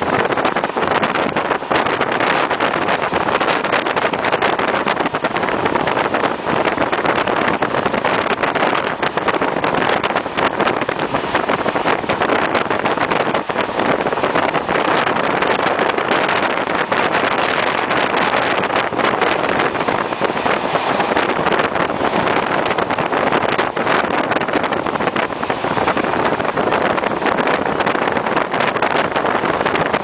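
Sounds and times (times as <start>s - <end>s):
passenger train running: 0.0s - 30.0s
wind buffeting microphone: 0.0s - 30.0s.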